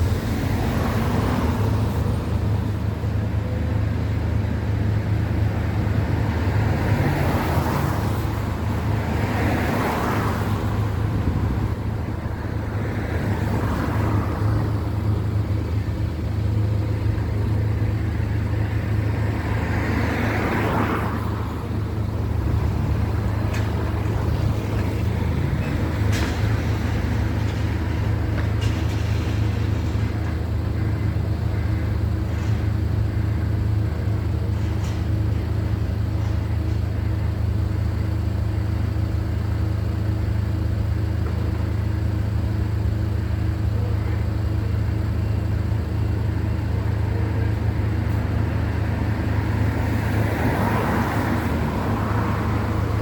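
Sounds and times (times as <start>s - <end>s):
low engine rumble: 0.0s - 53.0s.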